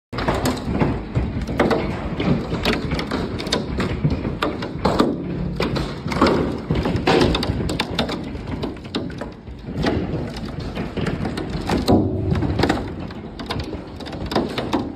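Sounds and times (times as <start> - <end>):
hailstones pounding: 0.2 - 14.9.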